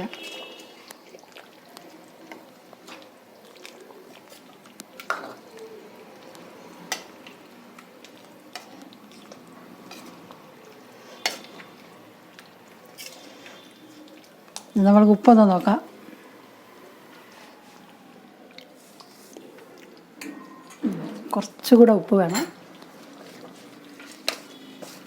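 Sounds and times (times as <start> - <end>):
spoon stirring curry in a pot: 0.1 - 20.8, 22.4 - 25.0.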